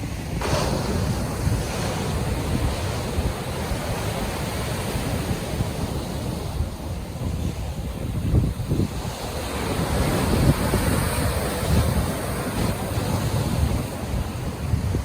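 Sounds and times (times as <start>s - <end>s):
low rumble of surf: 0.0s - 15.0s
waves washing in: 0.0s - 15.0s.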